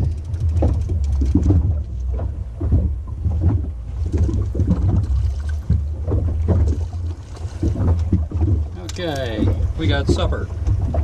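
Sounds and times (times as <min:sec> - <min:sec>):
boat motor running low: 0:00.0 - 0:11.0
irregular knocks: 0:00.0 - 0:11.0
water splashes: 0:00.0 - 0:11.0.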